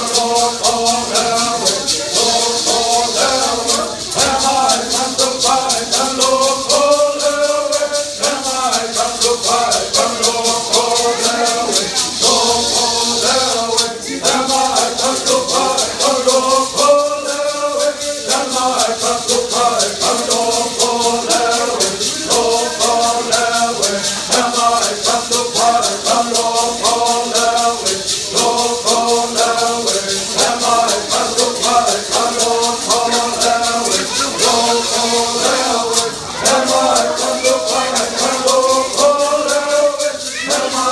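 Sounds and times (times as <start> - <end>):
person singing: 0.0 - 40.9
shaker rhythm: 0.0 - 40.9.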